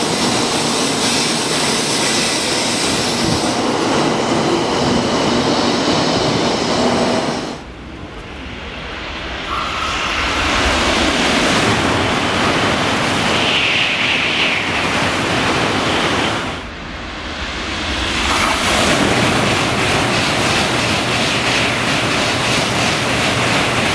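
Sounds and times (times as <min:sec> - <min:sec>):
high-speed train passing: 0:00.0 - 0:23.9.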